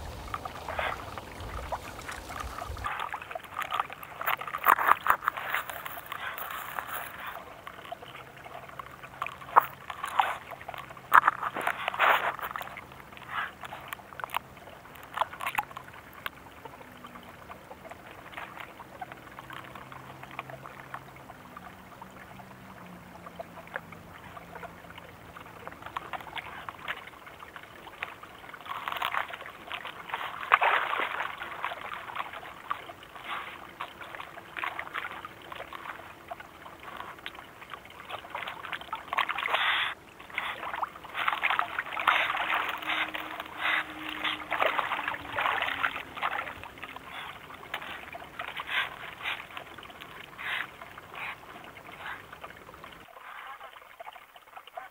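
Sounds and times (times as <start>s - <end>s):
wet splashing and clicking: 0.0s - 21.6s, 23.3s - 53.0s
water trickling and sloshing: 0.0s - 54.9s.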